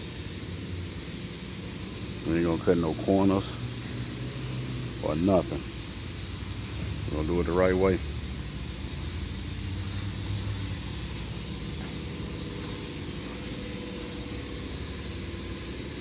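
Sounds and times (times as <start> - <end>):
low machinery drone: 0.0 - 16.0.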